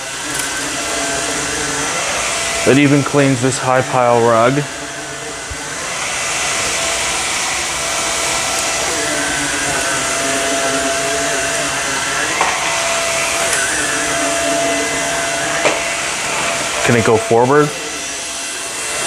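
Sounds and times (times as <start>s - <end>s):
stick vacuum running on rug: 0.0s - 19.0s.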